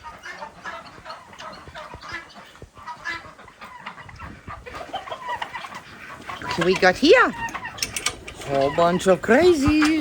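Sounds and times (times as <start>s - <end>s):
poultry flock calling: 0.0s - 10.0s.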